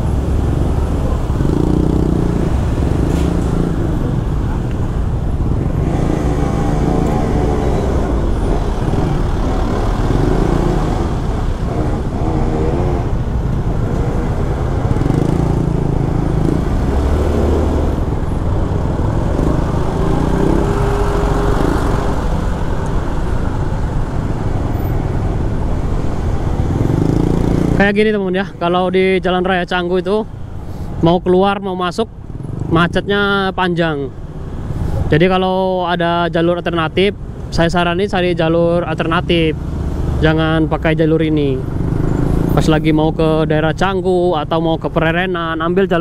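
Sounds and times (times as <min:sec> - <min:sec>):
motorcycle engines revving: 0:00.0 - 0:29.4, 0:32.1 - 0:35.2, 0:36.7 - 0:46.0
traffic rumble: 0:00.0 - 0:46.0.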